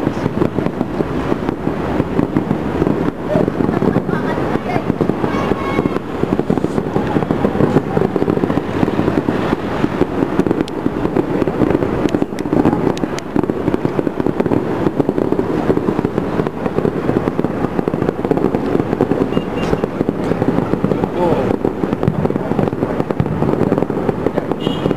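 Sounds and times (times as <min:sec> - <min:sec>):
fireworks bangs and crackling: 0:00.0 - 0:24.9.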